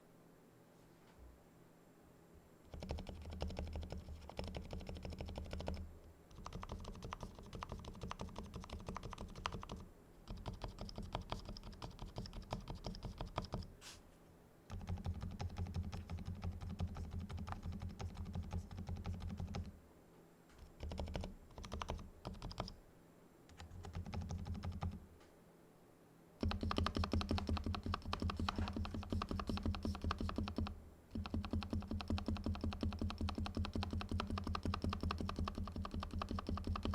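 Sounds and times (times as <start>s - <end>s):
fast typing on mechanical keyboard: 2.7s - 13.7s, 14.7s - 19.7s, 20.6s - 22.8s, 23.5s - 25.0s, 26.4s - 36.9s.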